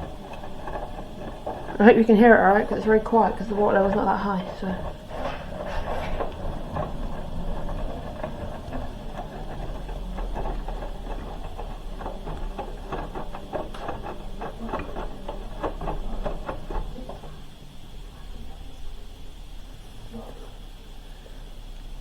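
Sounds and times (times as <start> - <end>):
washing machine drum humming: 0.0 - 22.0.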